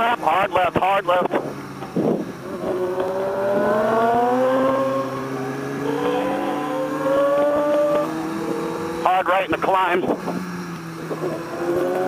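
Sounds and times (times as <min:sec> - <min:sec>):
motorcycle engine accelerating: 0:01.4 - 0:12.0.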